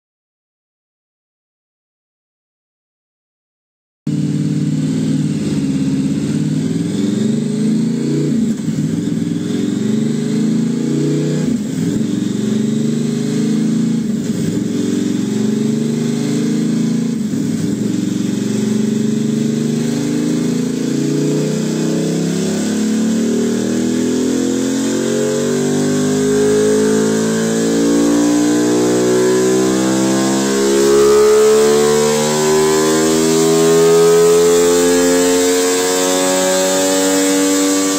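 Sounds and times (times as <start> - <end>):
motorcycle engine revving: 4.1 - 37.9.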